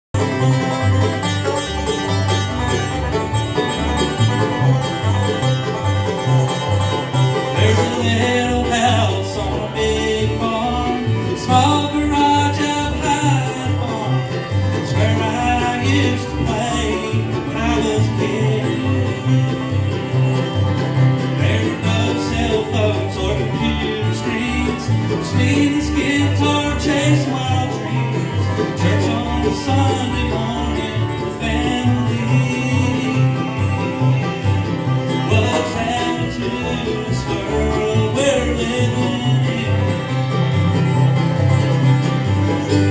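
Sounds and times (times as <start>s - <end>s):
upright bass: 0.0s - 42.9s
acoustic guitar: 0.1s - 42.9s
banjo rolls: 0.1s - 42.9s
fiddle: 0.1s - 42.9s
mandolin: 0.1s - 42.9s.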